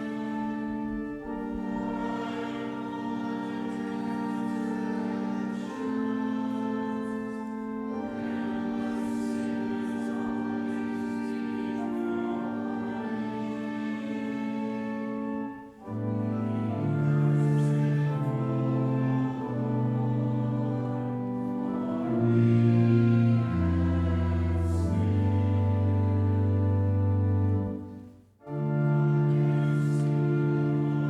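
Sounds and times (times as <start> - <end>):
congregation chanting: 0.0 - 31.0
instrumental accompaniment: 0.0 - 31.0.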